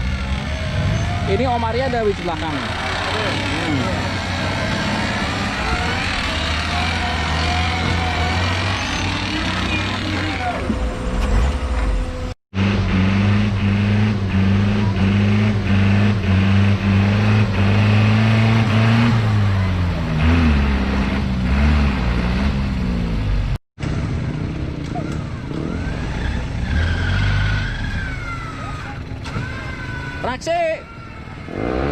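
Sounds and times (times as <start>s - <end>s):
off-road vehicle engine under load: 0.0s - 31.9s.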